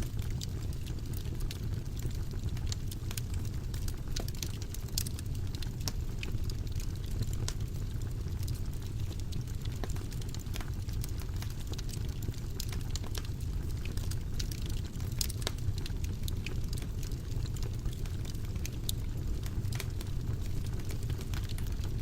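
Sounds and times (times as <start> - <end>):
fire popping: 0.0 - 22.0
wood fire crackling: 0.0 - 22.0.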